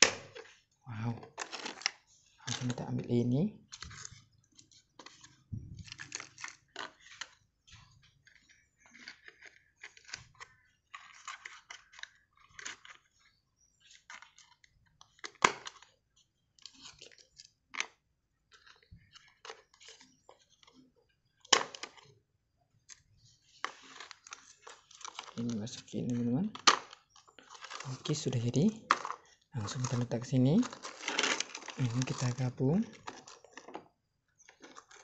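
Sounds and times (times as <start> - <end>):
plastic toy parts scraping and rattling: 0.0 - 2.8, 3.7 - 22.2, 22.8 - 35.0.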